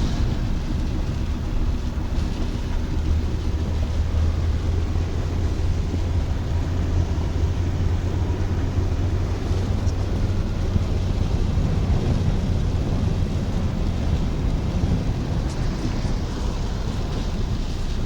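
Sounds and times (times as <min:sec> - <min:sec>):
car interior rumble: 0:00.0 - 0:18.0.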